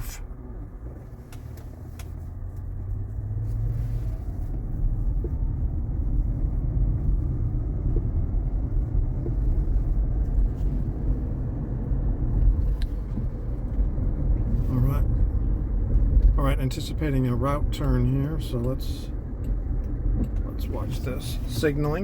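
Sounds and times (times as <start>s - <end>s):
road rumble inside car: 0.0s - 22.0s.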